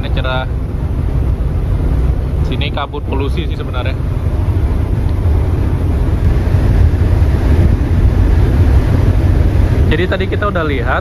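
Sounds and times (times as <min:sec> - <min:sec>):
ship engine running noise: 0:00.0 - 0:11.0
wind on microphone: 0:00.0 - 0:11.0.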